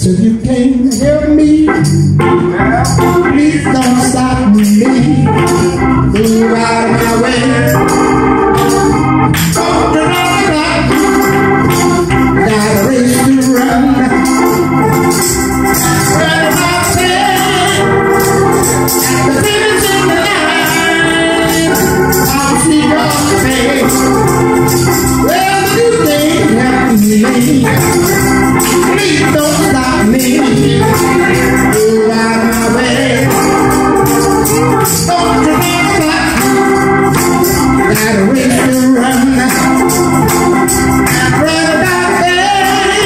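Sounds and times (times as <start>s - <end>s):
electric organ playing chords: 0.0s - 43.0s
hand percussion shaking: 2.8s - 43.0s.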